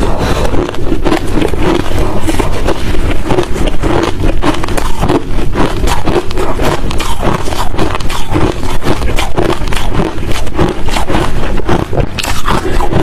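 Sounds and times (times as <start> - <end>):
ice being chewed: 0.0 - 13.0.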